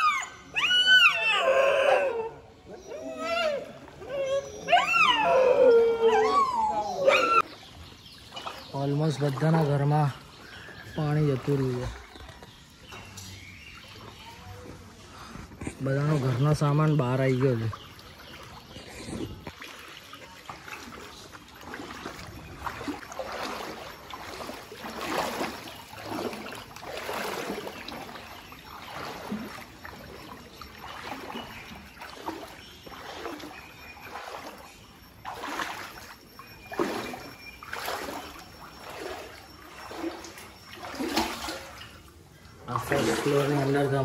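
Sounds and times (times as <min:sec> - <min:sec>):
footsteps wading through water: 0:02.6 - 0:44.0.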